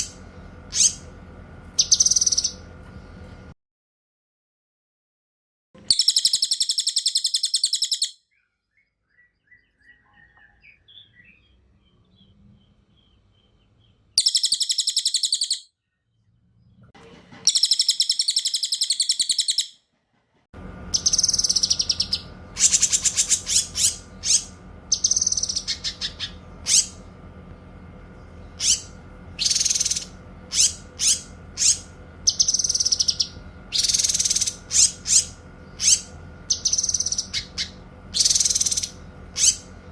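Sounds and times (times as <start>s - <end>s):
songbirds singing rapid trills: 0.0s - 3.4s, 5.8s - 16.8s, 17.5s - 19.8s, 20.9s - 39.9s
steady background hum: 0.0s - 3.6s, 5.8s - 39.9s.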